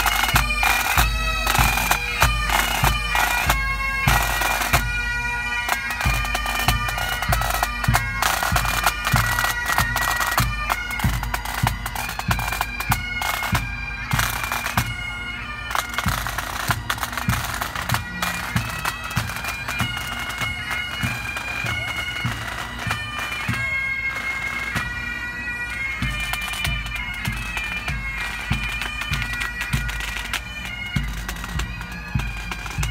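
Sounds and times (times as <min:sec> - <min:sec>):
bagpipes playing a march: 0:00.0 - 0:32.9.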